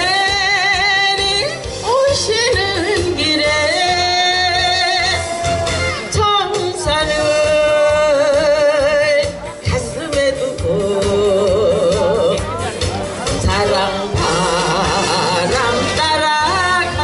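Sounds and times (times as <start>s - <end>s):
woman singing with vibrato: 0.0s - 12.6s, 13.3s - 17.0s
backing music: 0.0s - 17.0s.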